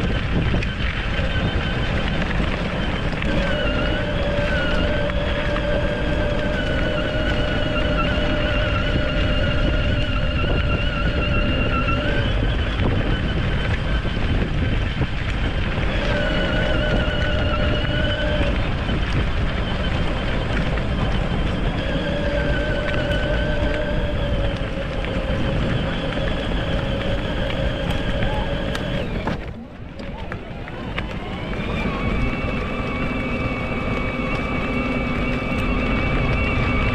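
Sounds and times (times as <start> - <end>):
electric motors whining: 0.0 - 36.9
wind rumble on microphone: 0.0 - 36.9.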